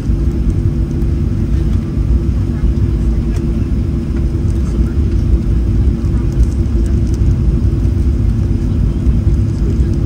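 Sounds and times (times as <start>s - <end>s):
airplane cabin rumble: 0.0s - 10.0s
jet engines humming: 0.0s - 10.0s.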